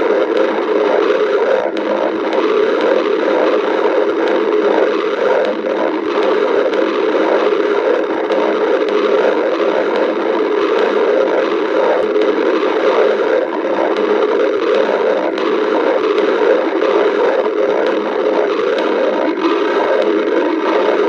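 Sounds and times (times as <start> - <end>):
stomach growling: 0.0 - 21.0.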